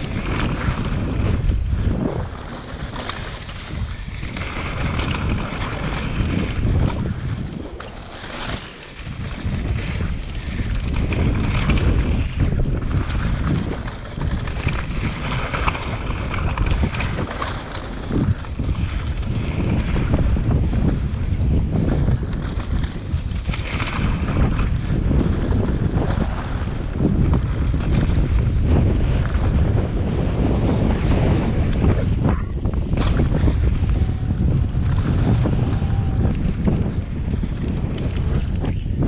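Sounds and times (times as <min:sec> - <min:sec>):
bike knocks and rattles: 0:00.0 - 0:39.0
bike tyre noise: 0:00.0 - 0:39.0
wind rushing over microphone: 0:00.0 - 0:39.0.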